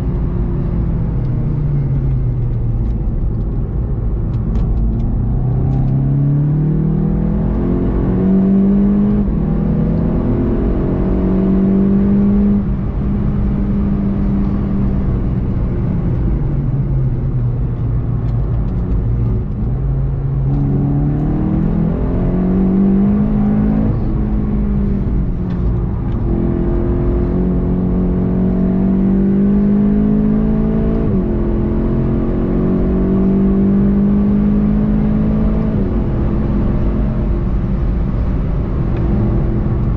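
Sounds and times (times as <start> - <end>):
car engine revving through gears: 0.1 - 39.9.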